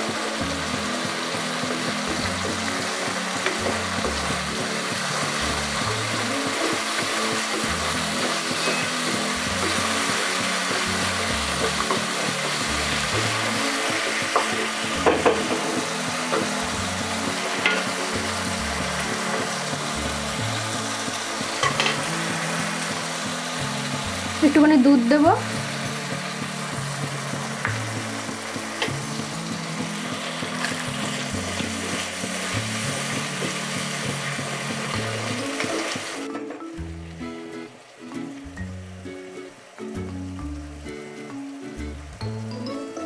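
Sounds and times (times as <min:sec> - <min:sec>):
paste sizzling in oil: 0:00.0 - 0:36.4
background music: 0:00.0 - 0:43.0.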